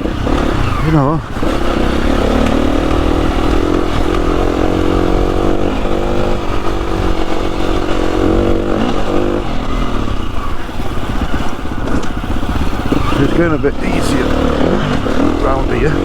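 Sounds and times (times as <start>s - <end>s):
wind rumbling on microphone: 0.0s - 15.4s
motorcycle engine revving: 0.0s - 16.0s.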